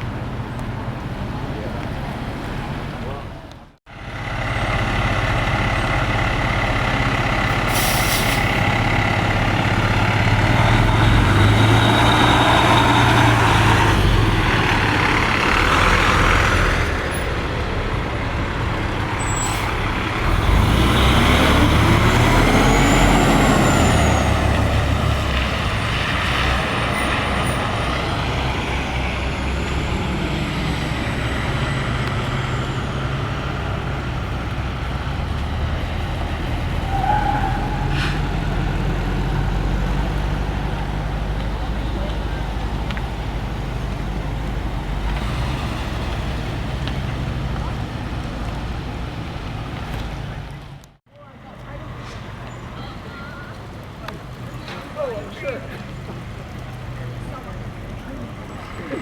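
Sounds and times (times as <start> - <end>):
motor vehicle engine rumbling: 0.0 - 59.0.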